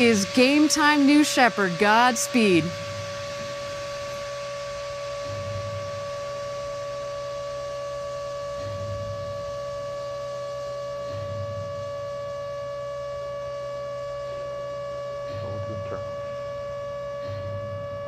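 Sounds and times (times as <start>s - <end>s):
steady high tone: 0.0s - 18.0s
short low pulse: 2.7s - 18.0s.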